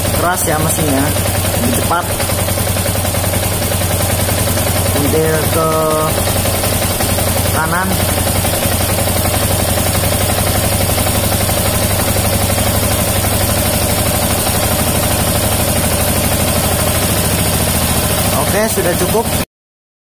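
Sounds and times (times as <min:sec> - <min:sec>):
motorcycle engine idling: 0:00.0 - 0:19.4.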